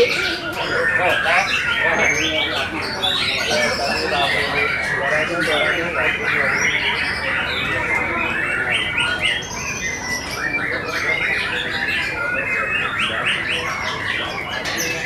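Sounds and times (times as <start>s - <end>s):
birds singing: 0.0s - 15.0s.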